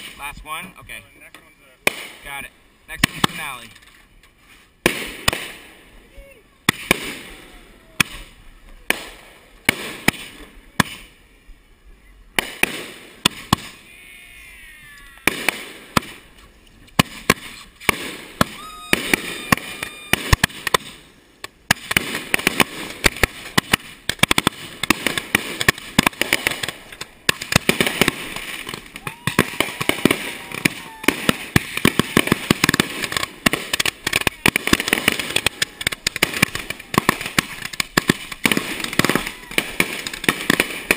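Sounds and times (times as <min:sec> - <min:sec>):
fireworks launching and bursting: 0:00.0 - 0:00.8, 0:01.8 - 0:11.3, 0:12.3 - 0:40.9.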